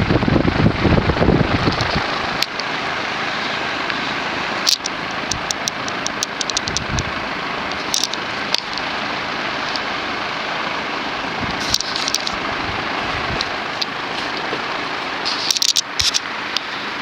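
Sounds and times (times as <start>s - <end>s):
ceiling fan air rush: 0.0s - 17.0s.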